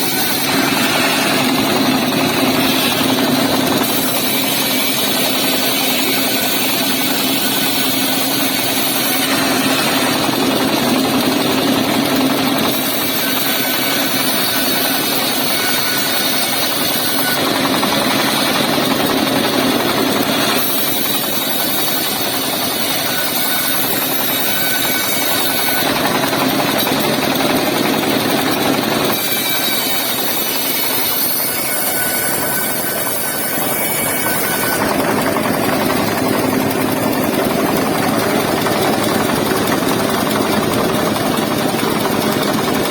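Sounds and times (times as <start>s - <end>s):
saw cutting timber: 0.0s - 42.9s.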